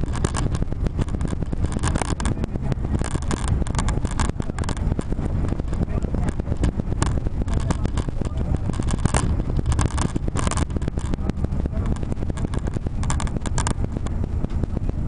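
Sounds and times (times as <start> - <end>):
bus engine and road rumble: 0.0 - 15.0
sharp clicks and knocks: 0.0 - 15.0.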